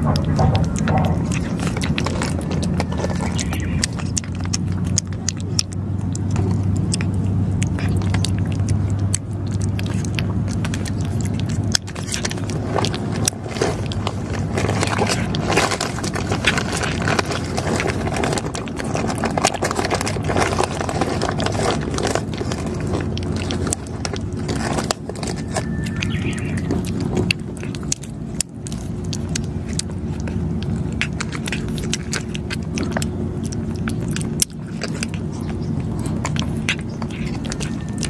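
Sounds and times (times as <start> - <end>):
cat crunching dry food: 0.0 - 38.0.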